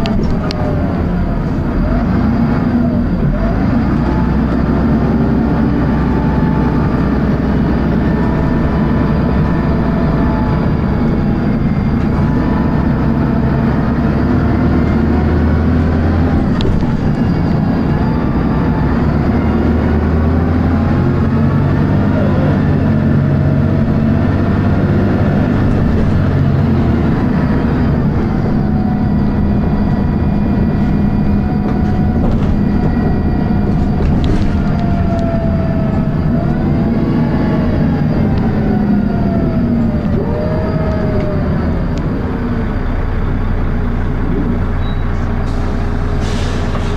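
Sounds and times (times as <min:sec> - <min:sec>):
gearbox whining tones: 0:00.0 - 0:46.0
bus diesel engine thrashing: 0:00.0 - 0:46.9
high-pitched whine: 0:00.0 - 0:46.9.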